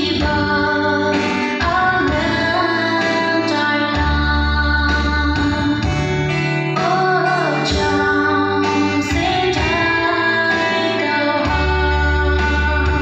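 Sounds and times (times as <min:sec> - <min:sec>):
instrumental accompaniment with bass: 0:00.0 - 0:13.0
woman singing into a microphone: 0:00.0 - 0:13.0.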